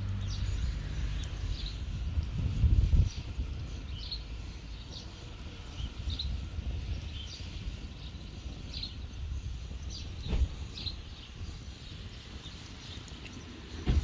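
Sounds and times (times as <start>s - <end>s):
wood fire burning: 0.0s - 14.0s
birds chirping: 0.1s - 14.0s.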